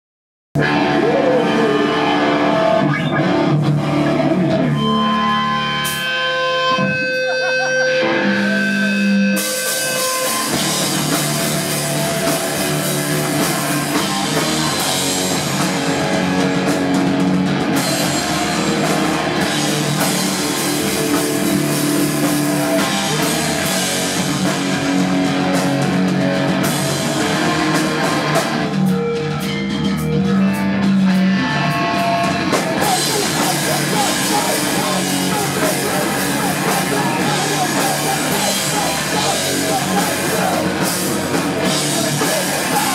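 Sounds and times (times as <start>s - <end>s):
punk band playing live: 0.6s - 42.9s.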